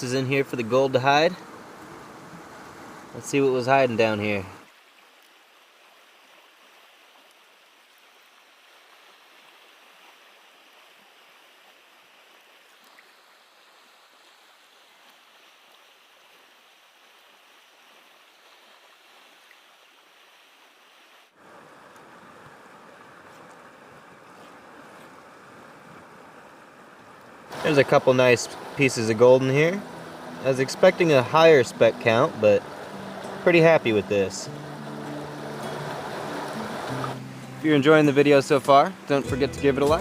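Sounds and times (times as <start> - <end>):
creek water running: 0.0 - 40.0.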